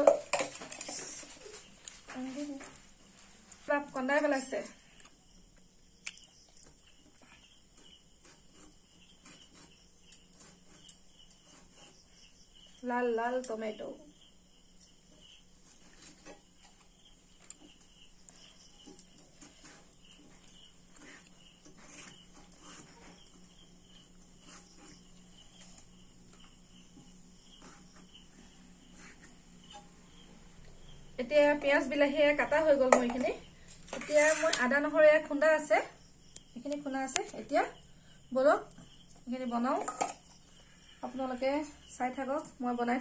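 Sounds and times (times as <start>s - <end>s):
crickets chirping: 0.0s - 43.0s.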